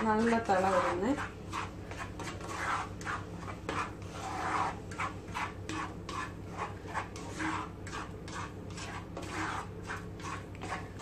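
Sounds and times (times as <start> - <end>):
steady low hum: 0.0 - 11.0
wooden spatula scraping pan: 0.0 - 11.0.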